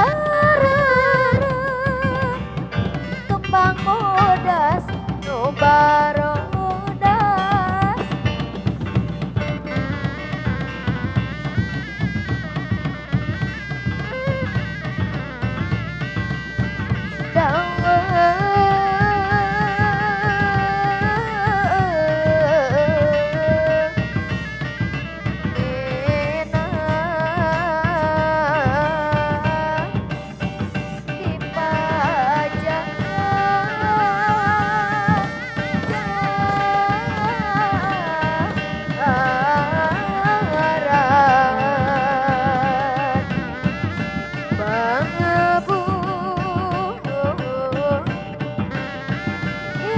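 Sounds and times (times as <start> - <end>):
drums playing steady rhythm: 0.0 - 49.9
sustained wavering melody: 0.0 - 49.9.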